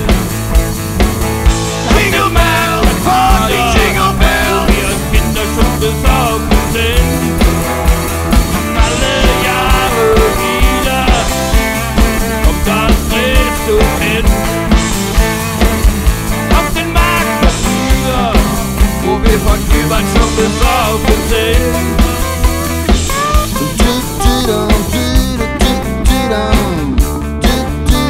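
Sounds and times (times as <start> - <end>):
acoustic guitars: 0.0 - 28.0
drum kit beat: 0.0 - 28.0
electric bass: 0.0 - 28.0
sliding melody line: 1.4 - 25.4.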